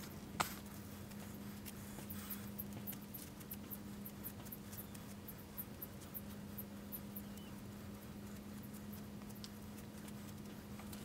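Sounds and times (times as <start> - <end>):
scratching and light ticks: 0.0 - 11.0
steady low hum: 0.0 - 11.0.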